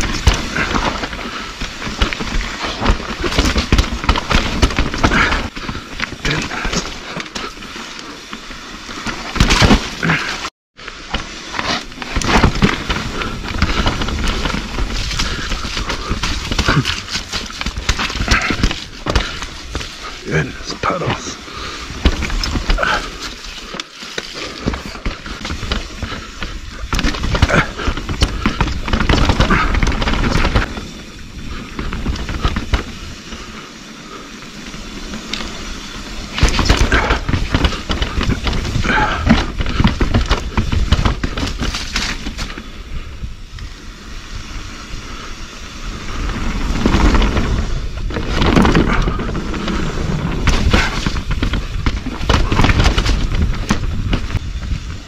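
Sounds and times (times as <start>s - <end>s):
mountain bike clattering: 0.0s - 55.0s
steady rushing noise: 0.0s - 55.0s.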